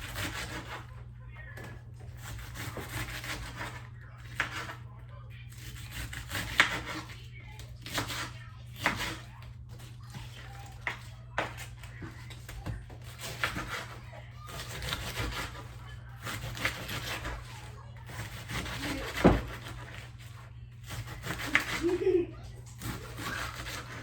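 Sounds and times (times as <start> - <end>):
knife chopping cabbage on board: 0.0 - 1.0, 2.1 - 4.8, 5.5 - 24.0.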